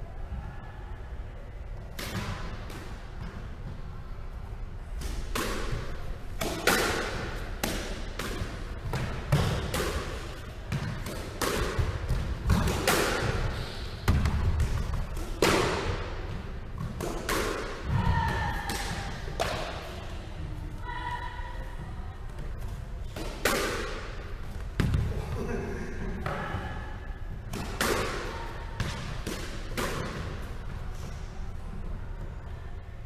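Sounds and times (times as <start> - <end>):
squash ball impacts: 1.9 - 3.8, 4.8 - 20.4, 22.3 - 31.6.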